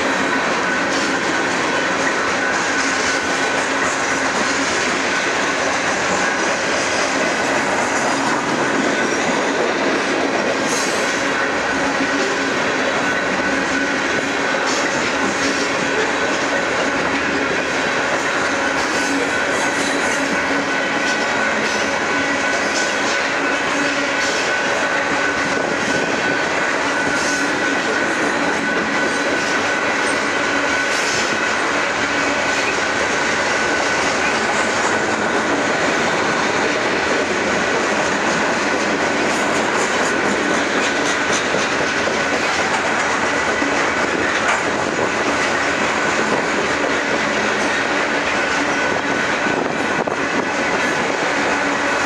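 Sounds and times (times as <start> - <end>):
train wheels clattering: 0.0 - 52.0.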